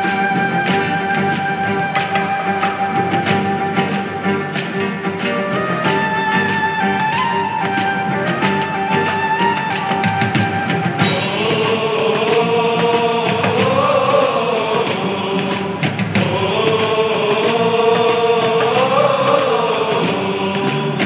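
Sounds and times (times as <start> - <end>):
male choir singing a carol: 0.0 - 21.0.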